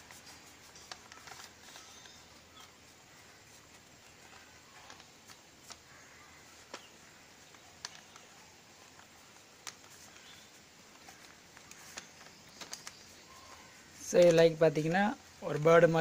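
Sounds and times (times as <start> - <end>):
low hiss: 0.0 - 16.0
paper clicks and crinkles: 0.0 - 16.0.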